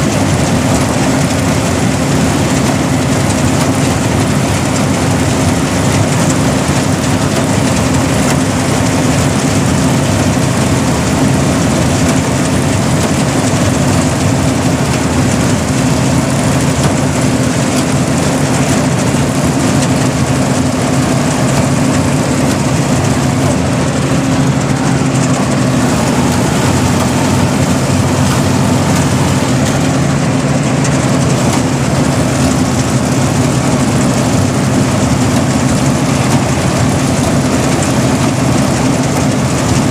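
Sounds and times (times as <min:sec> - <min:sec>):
harvester engine droning: 0:00.0 - 0:39.9.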